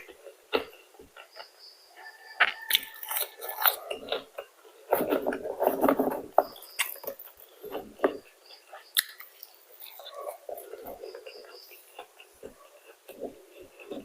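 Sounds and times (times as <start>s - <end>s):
person chewing crispy chicken: 0.0s - 14.0s.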